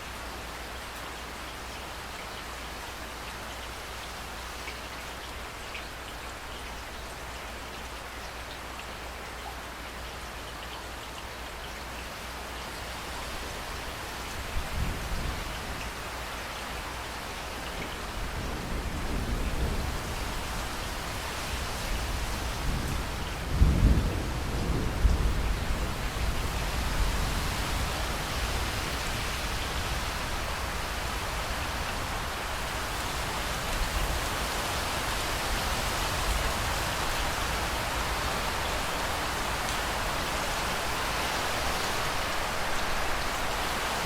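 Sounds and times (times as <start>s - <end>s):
heavy rain: 0.0s - 44.0s.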